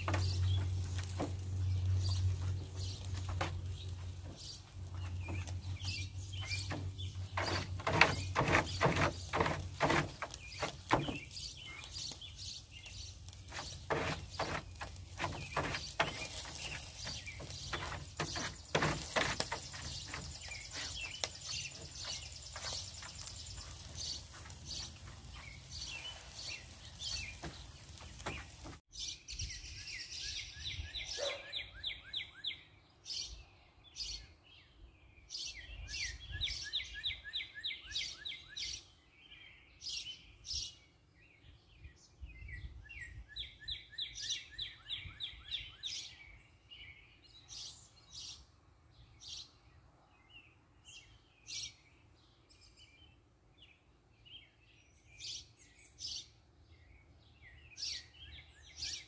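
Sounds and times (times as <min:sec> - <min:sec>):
songbird trills: 0:00.0 - 0:48.5.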